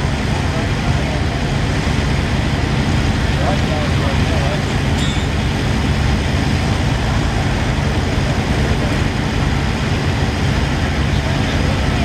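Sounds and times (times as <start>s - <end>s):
tractor engines rumbling: 0.0s - 12.0s.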